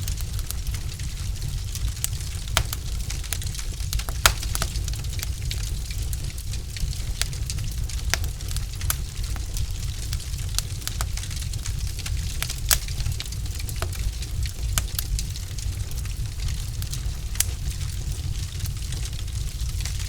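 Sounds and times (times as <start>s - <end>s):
flames rumbling: 0.0s - 20.0s
logs crackling and popping: 0.0s - 20.0s.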